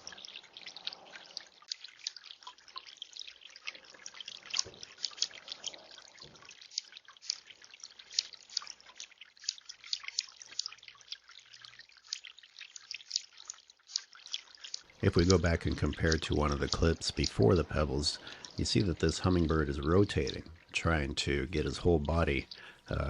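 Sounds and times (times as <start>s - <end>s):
fountain water trickling and dripping: 0.0s - 23.0s.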